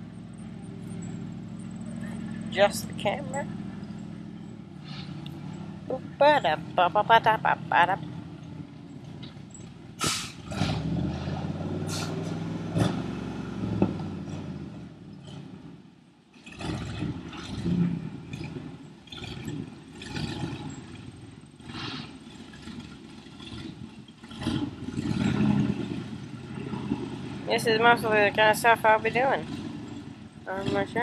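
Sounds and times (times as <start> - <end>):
truck clunks and rattles: 0.0 - 6.8, 8.0 - 31.0
truck engine running: 0.0 - 31.0.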